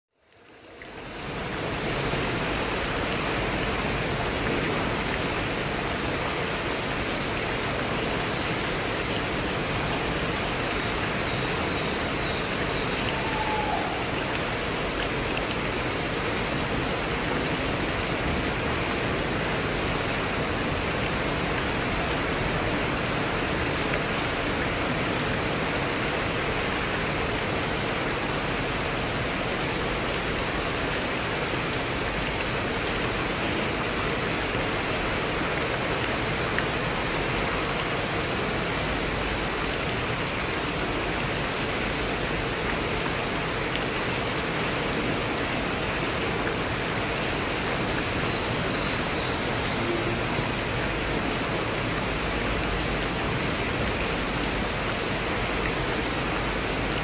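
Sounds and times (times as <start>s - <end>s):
heavy rain on foliage and roof: 0.1s - 57.0s
water streaming off roof: 0.2s - 57.0s.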